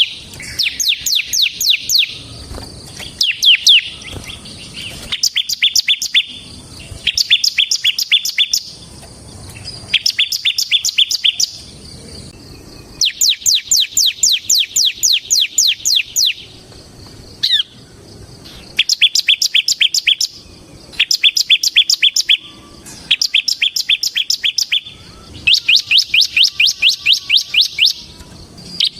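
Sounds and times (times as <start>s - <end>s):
bird singing rapid high notes: 0.0s - 9.0s, 9.6s - 16.6s, 17.4s - 28.9s.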